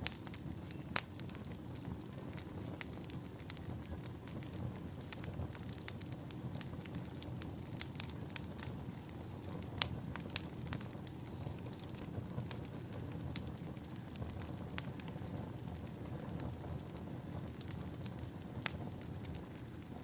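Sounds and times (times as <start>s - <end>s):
fire popping and snapping: 0.0s - 20.0s
wood fire crackling: 0.0s - 20.0s.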